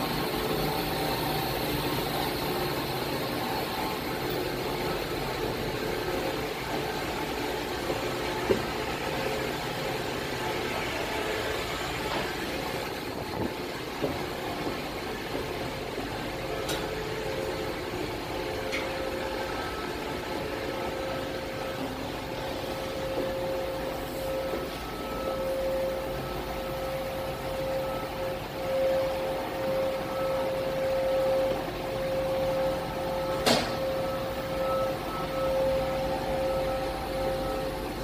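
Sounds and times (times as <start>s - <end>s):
engine-room machinery drone: 0.0s - 38.0s.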